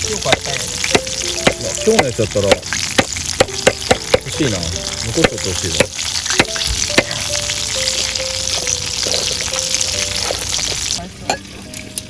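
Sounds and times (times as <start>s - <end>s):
chicken sizzling in hot oil: 0.0s - 12.0s
slow background music: 0.0s - 12.0s.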